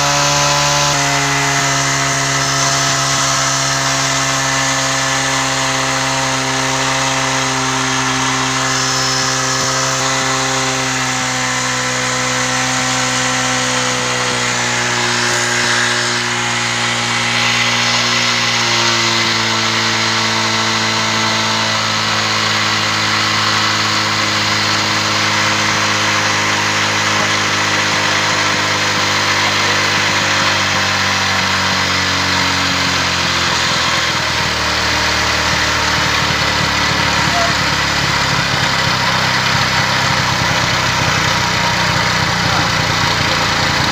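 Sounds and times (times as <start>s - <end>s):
motorcycle engine idling fast: 0.0s - 43.9s.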